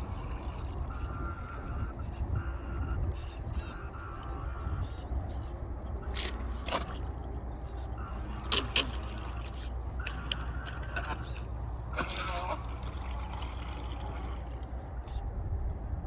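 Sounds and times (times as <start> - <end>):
propeller churning water: 0.0 - 16.0.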